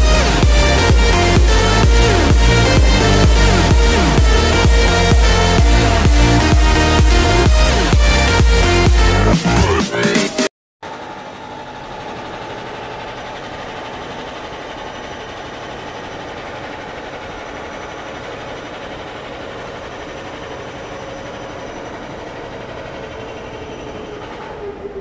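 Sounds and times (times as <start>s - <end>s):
train whine falling in pitch: 0.0s - 9.2s, 10.8s - 25.0s
train rushing on rails: 0.0s - 10.1s, 10.9s - 25.0s.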